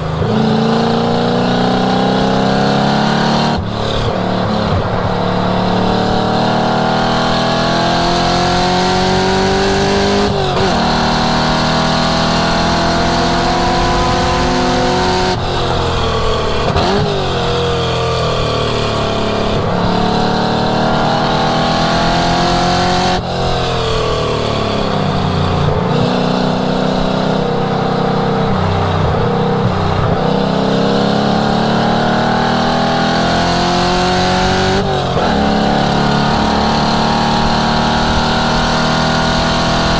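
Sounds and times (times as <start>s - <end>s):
car engine revving through exhaust: 0.0s - 39.9s.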